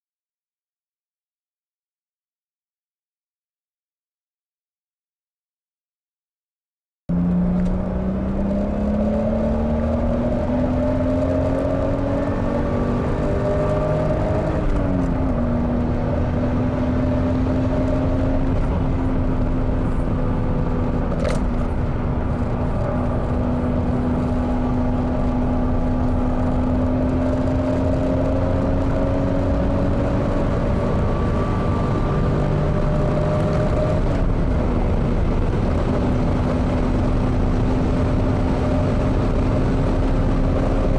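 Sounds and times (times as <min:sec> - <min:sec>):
car engine at full throttle: 0:07.1 - 0:40.9
wind and road roar: 0:07.1 - 0:40.9.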